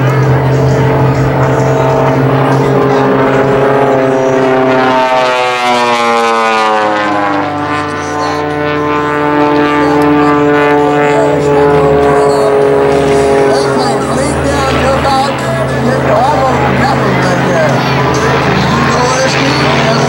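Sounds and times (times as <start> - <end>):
airplane engine droning: 0.0 - 20.0.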